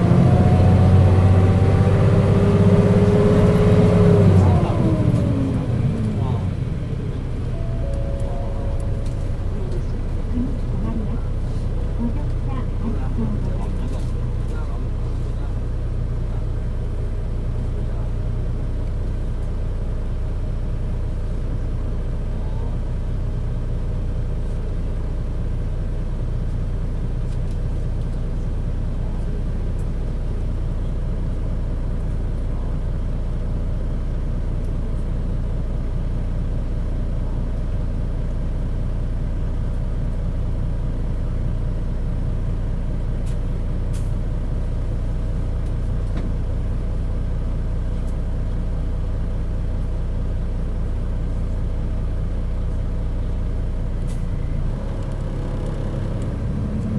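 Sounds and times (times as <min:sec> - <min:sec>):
bus engine low drone: 0:00.0 - 0:56.9.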